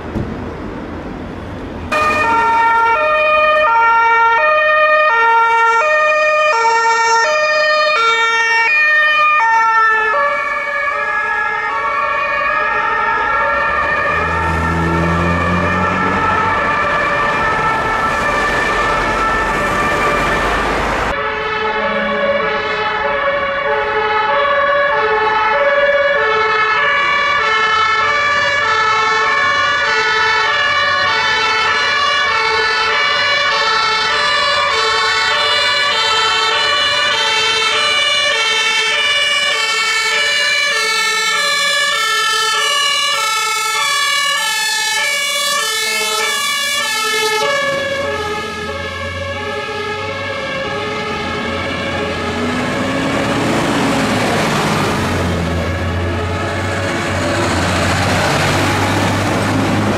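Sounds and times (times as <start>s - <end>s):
heavy truck engine passing: 0.0s - 5.8s, 6.5s - 38.3s, 39.0s - 59.9s
two-tone sirens: 1.4s - 59.9s.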